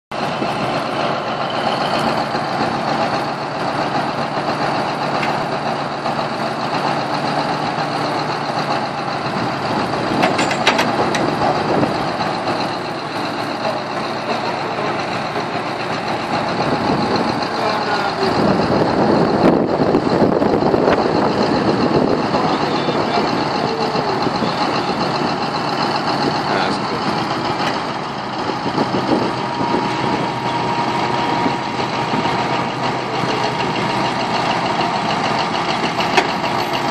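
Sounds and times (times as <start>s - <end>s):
heavy diesel engine running: 0.1s - 36.9s.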